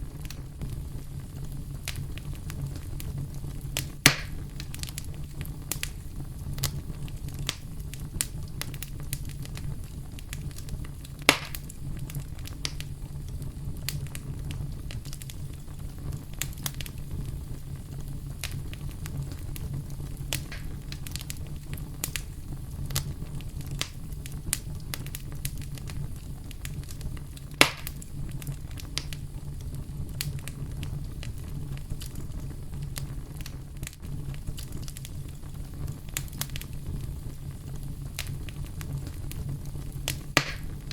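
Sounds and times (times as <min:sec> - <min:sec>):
campfire crackling: 0:00.0 - 0:40.9
sharp fire pops: 0:00.0 - 0:40.9.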